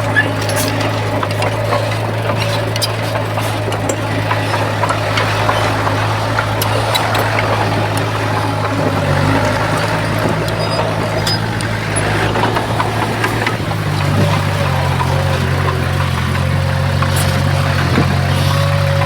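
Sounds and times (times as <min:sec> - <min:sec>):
bulldozer diesel engine running: 0:00.0 - 0:19.0
sharp clicks and clanks: 0:00.0 - 0:19.0.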